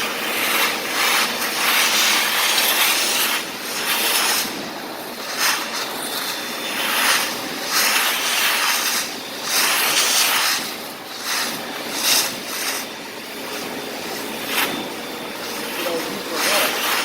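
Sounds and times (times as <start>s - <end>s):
vacuum cleaner sucking sand: 0.0s - 17.0s.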